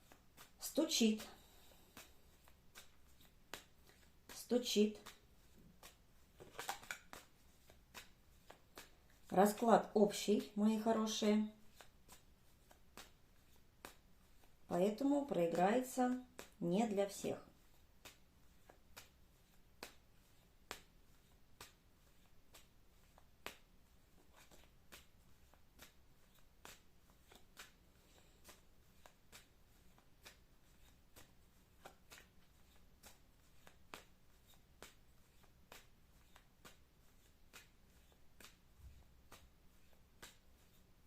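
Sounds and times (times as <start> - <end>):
playing cards shuffled: 0.0 - 9.6, 11.6 - 15.0, 17.2 - 41.0.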